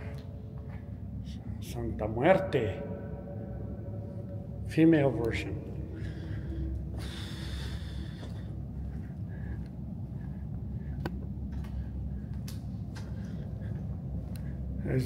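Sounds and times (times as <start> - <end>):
low rumble in tunnel: 0.0 - 15.0.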